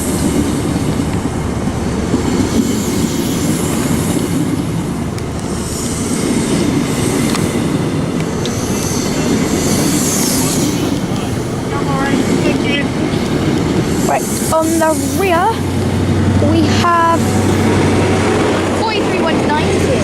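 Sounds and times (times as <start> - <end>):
rail joint clicks: 0.0 - 20.0
train wheels rumbling on track: 0.0 - 20.0.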